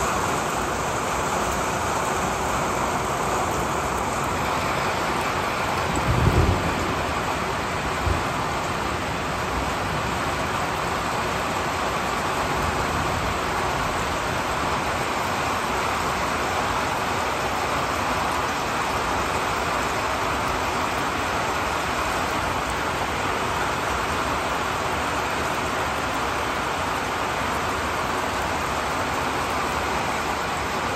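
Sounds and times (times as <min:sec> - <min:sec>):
heavy rain on foliage: 0:00.0 - 0:30.9.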